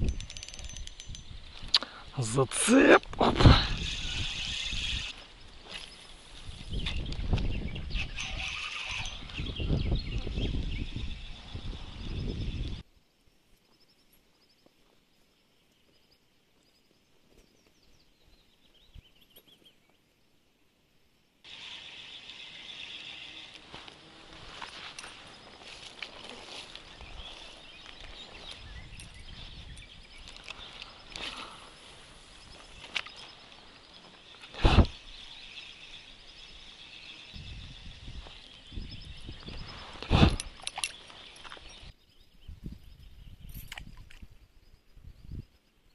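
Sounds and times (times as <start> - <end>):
small birds chirping: 0.0 - 12.8, 13.6 - 20.1, 21.5 - 45.9.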